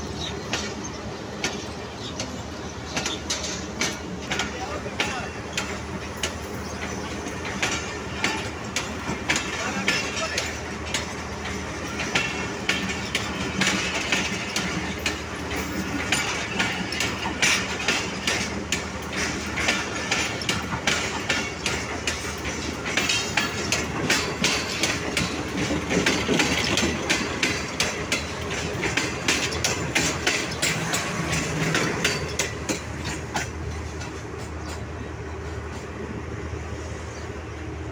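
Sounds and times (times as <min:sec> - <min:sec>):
train wheels clacking on rails: 0:00.0 - 0:36.6
steady train rumble: 0:00.0 - 0:37.9.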